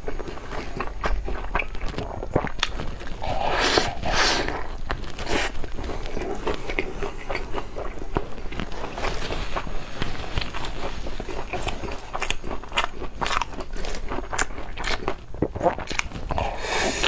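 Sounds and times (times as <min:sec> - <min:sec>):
chewing and crunching chicken: 0:00.0 - 0:17.0.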